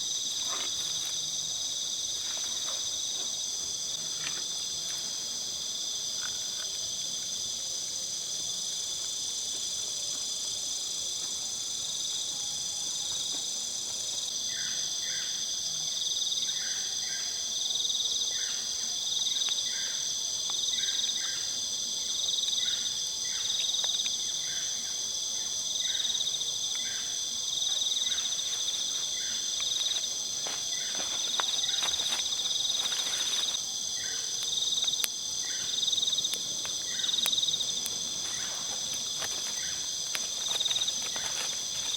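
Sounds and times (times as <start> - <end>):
chorus of crickets and insects: 0.0 - 41.9.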